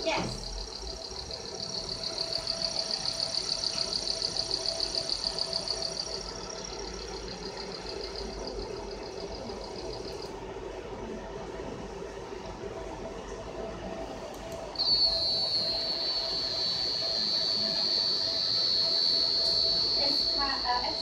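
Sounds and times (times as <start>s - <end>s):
pulsing high-pitched whine: 0.0s - 11.2s, 14.7s - 21.0s
low machine hum: 0.0s - 21.0s.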